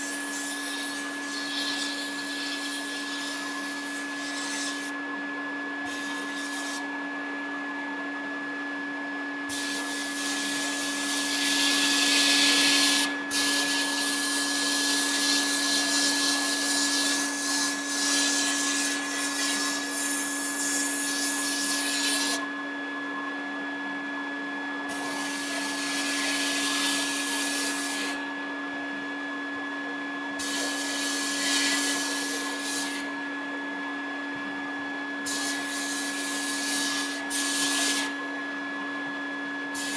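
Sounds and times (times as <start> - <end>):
vacuum humming: 0.0 - 39.9.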